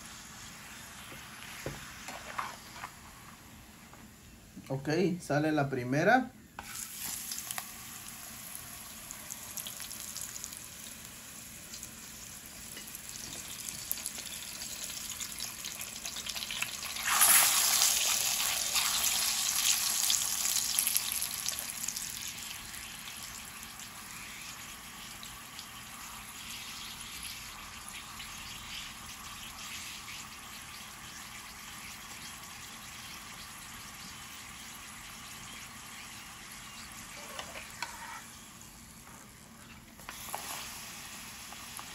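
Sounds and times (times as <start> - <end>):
tortilla sizzling in hot oil: 0.0 - 3.6, 6.6 - 39.0, 40.0 - 41.9.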